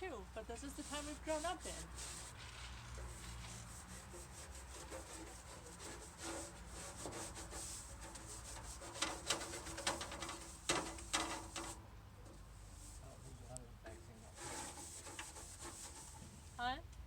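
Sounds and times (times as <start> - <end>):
hand scrubbing toolbox: 0.1 - 11.8, 14.1 - 16.5.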